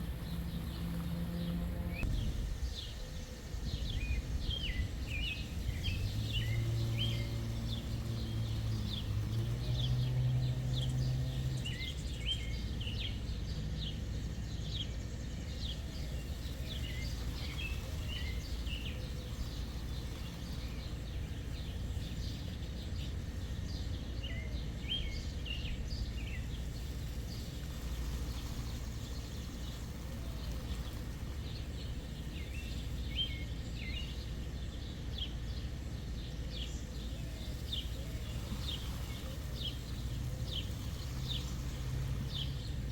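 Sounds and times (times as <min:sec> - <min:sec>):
low background rumble: 0:00.0 - 0:42.9
small birds chirping: 0:00.0 - 0:42.9.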